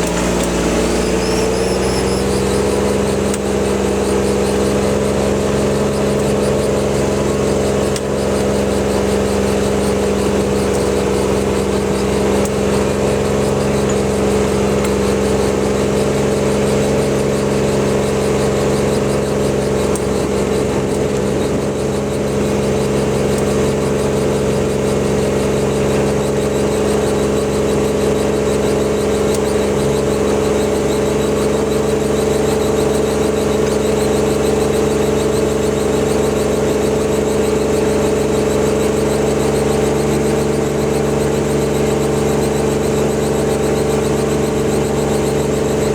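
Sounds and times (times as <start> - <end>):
utility vehicle engine running: 0.0 - 45.9.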